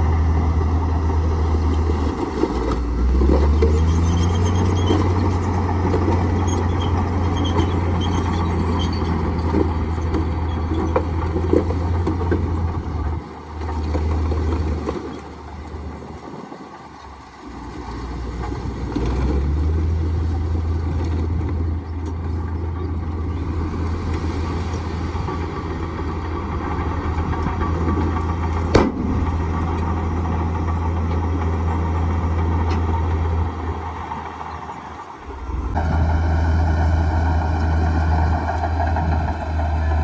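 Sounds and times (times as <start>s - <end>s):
bulldozer diesel engine: 0.0s - 40.0s.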